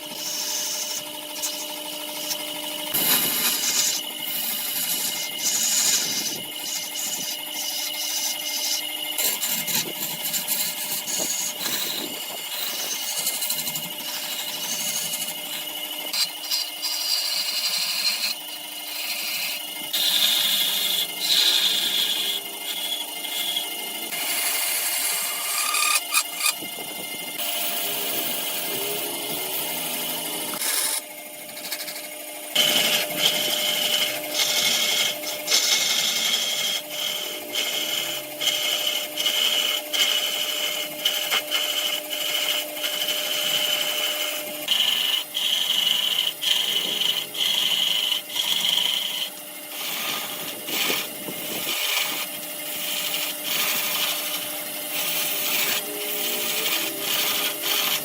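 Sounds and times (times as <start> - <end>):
turning tool scraping wood: 0.0 - 58.0
wood lathe machine whine: 0.0 - 58.0.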